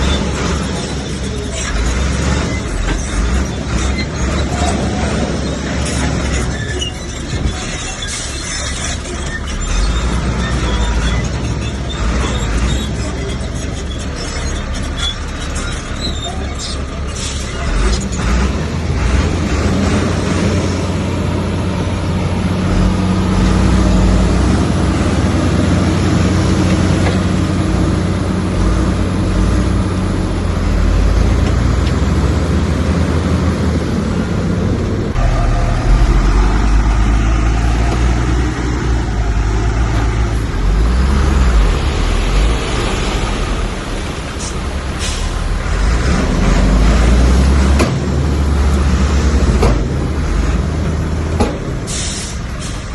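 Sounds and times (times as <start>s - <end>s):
heavy diesel machinery engine rumble: 0.0s - 52.9s.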